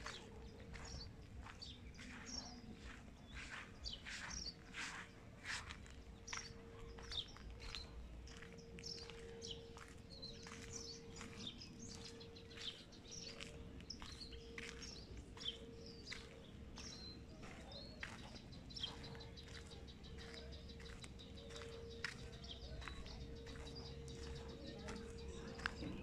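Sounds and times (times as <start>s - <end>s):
birds chirping and whistling: 1.7s - 26.0s.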